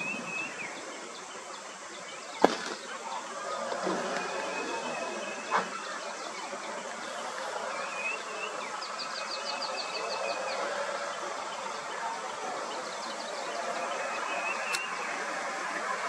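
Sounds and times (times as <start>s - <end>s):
insects buzzing and whining: 0.0s - 16.0s.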